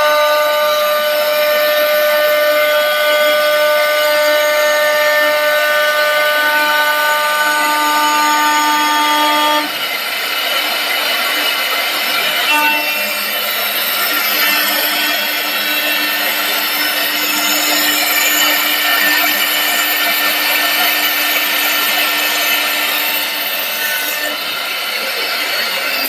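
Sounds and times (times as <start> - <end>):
lathe cutting wood: 0.0 - 26.0.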